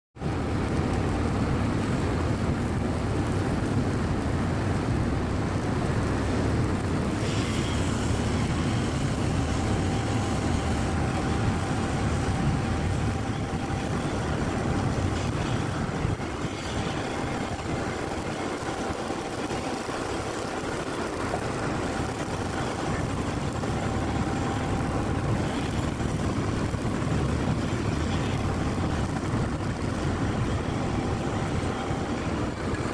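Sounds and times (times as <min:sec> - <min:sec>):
welding arc burning: 0:00.2 - 0:32.9
low machine rumble: 0:00.3 - 0:32.9.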